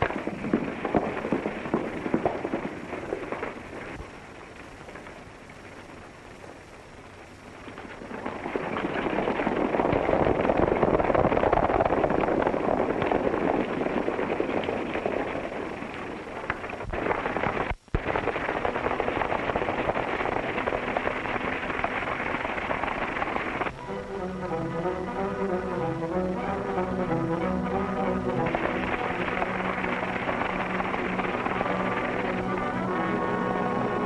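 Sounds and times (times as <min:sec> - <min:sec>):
horses galloping: 0:00.0 - 0:34.0.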